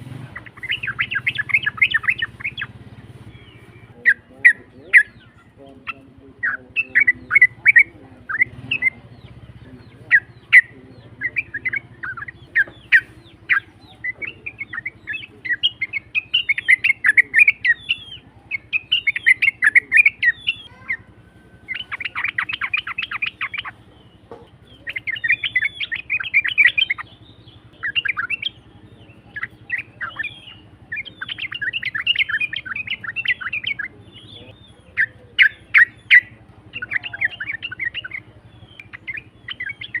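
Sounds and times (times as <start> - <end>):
bird chattering song: 0.0 - 40.0.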